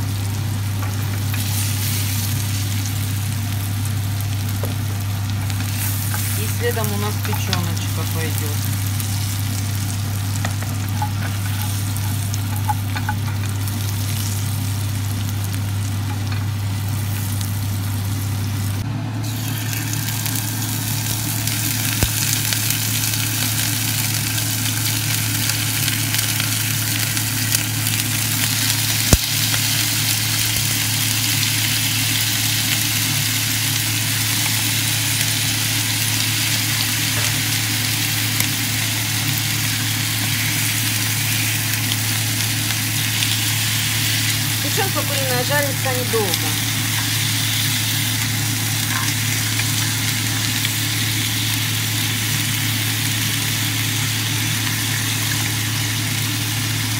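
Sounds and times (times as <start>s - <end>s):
extractor hood humming: 0.0s - 56.9s
liver sizzling in a grill pan: 0.0s - 56.9s.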